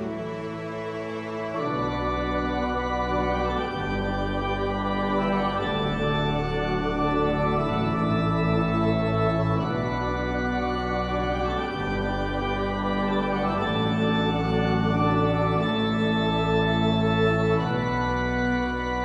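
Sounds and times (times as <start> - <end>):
ambient organ-like keyboard chords: 0.0 - 19.0.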